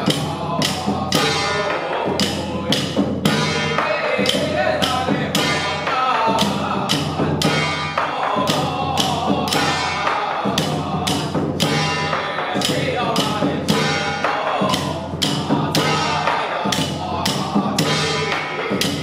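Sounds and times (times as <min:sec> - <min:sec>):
cymbals and drums beating: 0:00.0 - 0:19.0.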